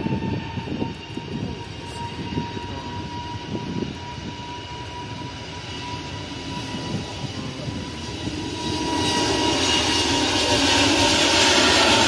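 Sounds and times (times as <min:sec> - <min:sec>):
aircraft engines running: 0:00.0 - 0:12.0.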